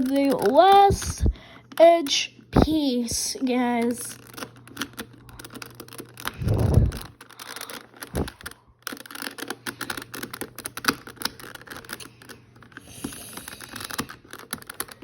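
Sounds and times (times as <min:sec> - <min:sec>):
puzzle cube plastic clicking: 0:00.0 - 0:01.1, 0:03.7 - 0:15.0.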